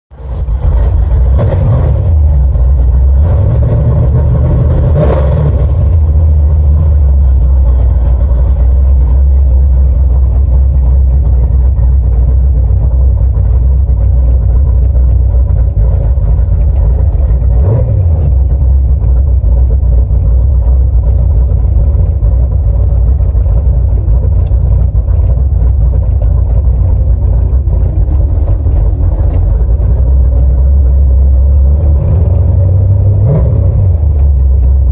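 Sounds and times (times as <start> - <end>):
car engine revving and idling: 0.1 - 34.9.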